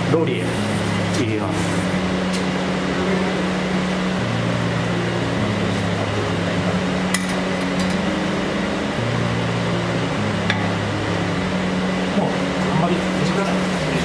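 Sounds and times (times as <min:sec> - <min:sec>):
background music bass line: 0:00.0 - 0:14.0
kitchen ventilation hum: 0:00.0 - 0:14.0.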